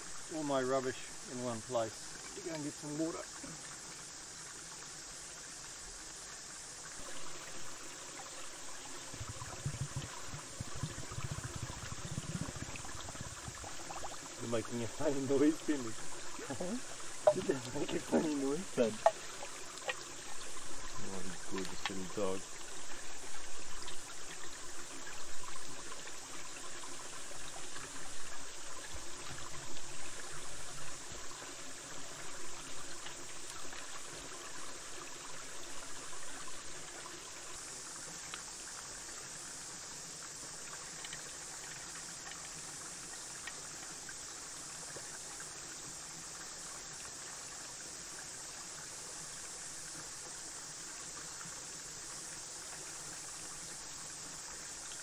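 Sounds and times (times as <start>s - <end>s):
stream running water: 0.0s - 55.0s
water bottle filling in stream: 0.0s - 55.0s.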